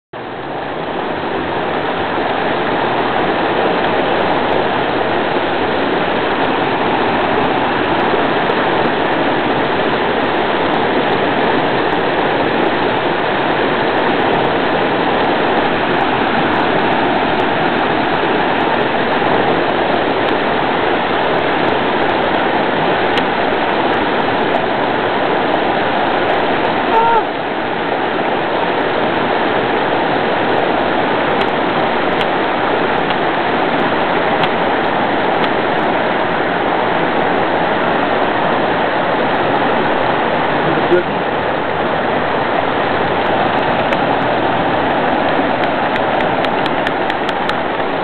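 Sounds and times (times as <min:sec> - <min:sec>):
river water rushing: 0:00.2 - 0:48.0.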